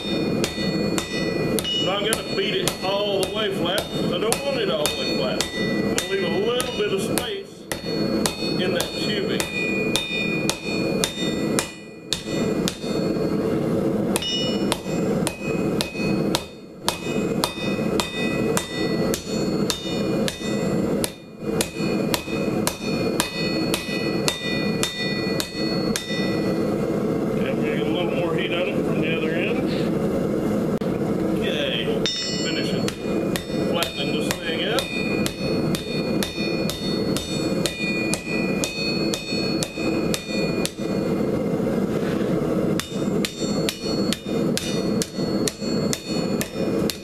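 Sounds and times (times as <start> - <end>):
hammer striking metal on anvil: 0.0 - 13.4, 14.1 - 26.7, 32.0 - 41.2, 42.7 - 47.0.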